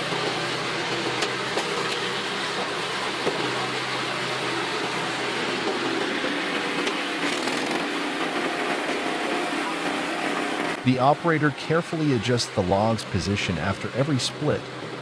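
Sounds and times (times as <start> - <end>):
log splitter engine running: 0.0 - 15.0.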